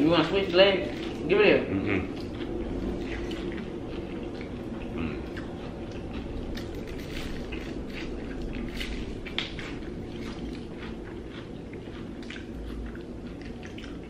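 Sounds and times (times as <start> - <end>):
low background hum: 0.0 - 14.0
people chewing food: 0.0 - 14.0.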